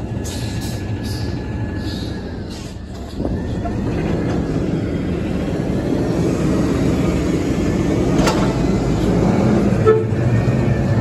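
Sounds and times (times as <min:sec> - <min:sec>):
garbage truck engine rumbling: 0:00.0 - 0:11.0.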